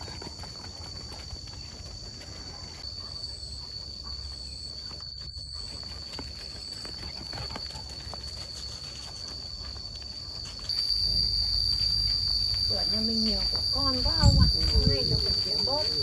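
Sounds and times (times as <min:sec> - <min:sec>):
faint footsteps: 0:00.0 - 0:16.0
high-pitched insect drone: 0:00.0 - 0:16.0.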